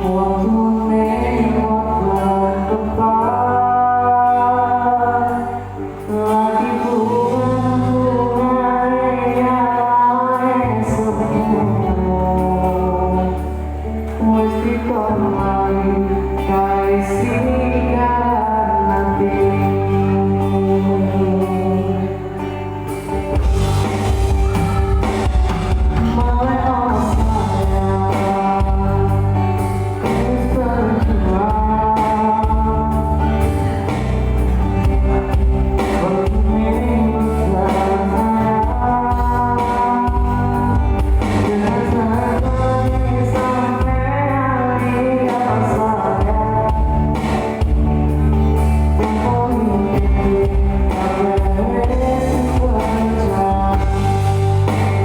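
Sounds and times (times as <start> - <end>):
live band music: 0.0 - 55.0
person singing: 0.0 - 55.0.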